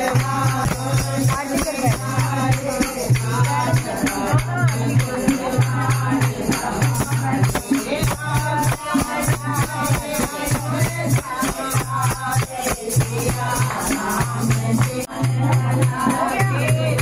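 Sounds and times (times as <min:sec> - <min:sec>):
devotional singing: 0:00.0 - 0:17.0
jingling hand percussion: 0:00.0 - 0:17.0.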